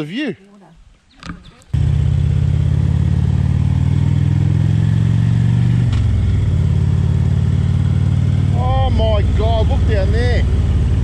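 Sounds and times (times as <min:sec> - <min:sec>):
motorcycle engine running: 0:01.7 - 0:11.0.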